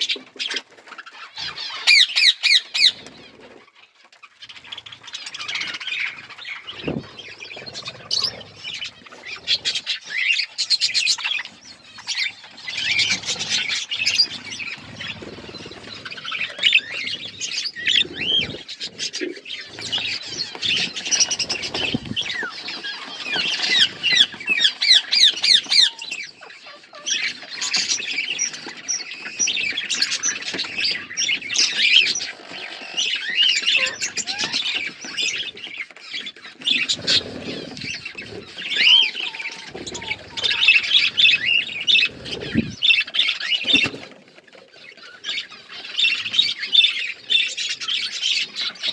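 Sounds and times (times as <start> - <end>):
budgerigars chattering: 0.0 - 3.5, 4.4 - 44.1.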